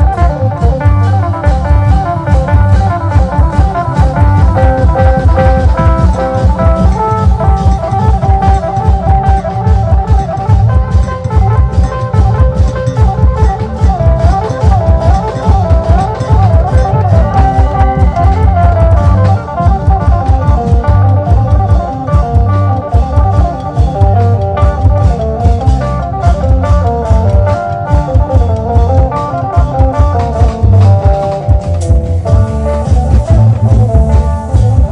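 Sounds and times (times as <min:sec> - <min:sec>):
long drums beating: 0:00.0 - 0:34.9
ornamented melody line: 0:00.0 - 0:34.9.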